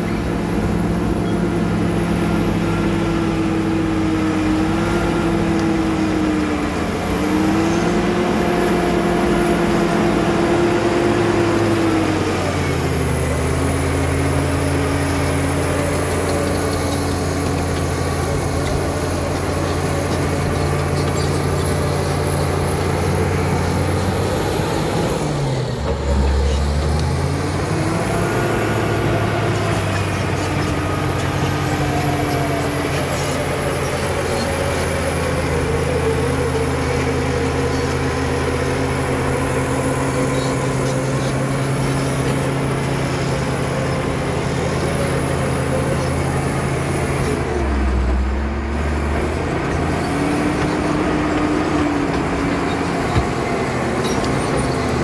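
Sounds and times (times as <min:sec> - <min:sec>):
diesel engine working under load: 0:00.0 - 0:55.0.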